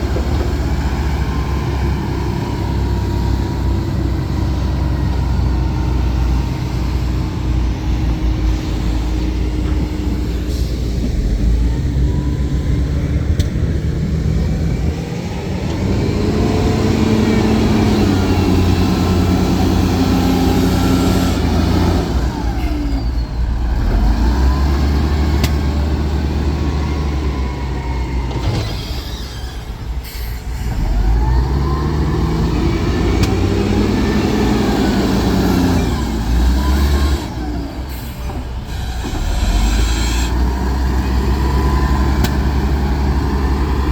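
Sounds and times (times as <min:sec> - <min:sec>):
heavy diesel engine under load: 0:00.0 - 0:43.9.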